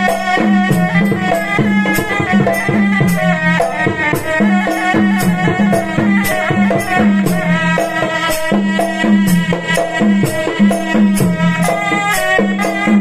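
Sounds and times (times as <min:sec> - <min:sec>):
reedy oboe melody: 0:00.0 - 0:13.0.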